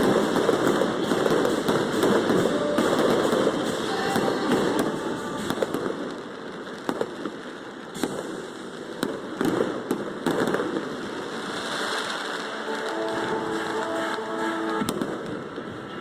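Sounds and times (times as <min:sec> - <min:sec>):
fireworks bursting with bangs: 0:00.0 - 0:16.0
fireworks hiss and crackle: 0:00.0 - 0:16.0.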